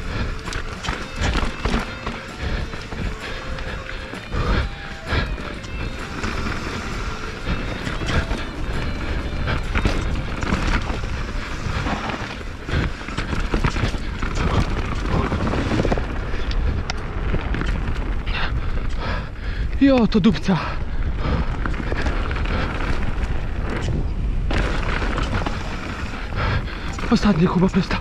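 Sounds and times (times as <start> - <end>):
bike tyres rumbling over ground: 0.0 - 28.0.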